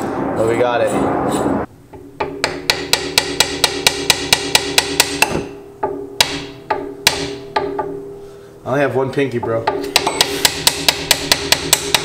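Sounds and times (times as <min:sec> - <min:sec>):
hammer striking metal: 0:00.8 - 0:08.2, 0:09.4 - 0:12.0.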